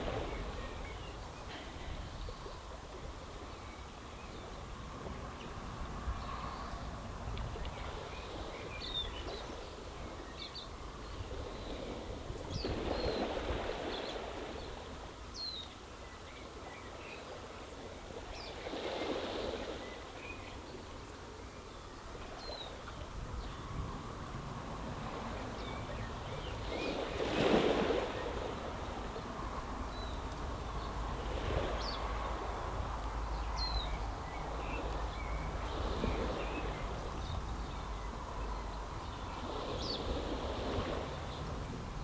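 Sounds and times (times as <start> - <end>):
low wind rumble: 0.0 - 16.0, 20.7 - 42.0
small waves on stony beach: 0.0 - 42.0.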